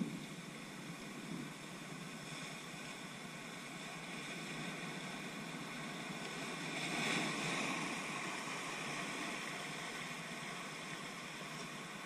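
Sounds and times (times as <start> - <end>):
surf washing over rocks: 0.0 - 12.0.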